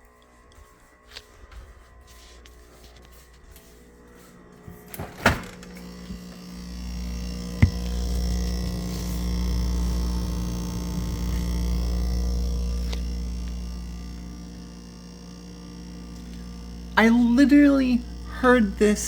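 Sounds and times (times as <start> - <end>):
refrigerator deep buzz: 1.1 - 19.0.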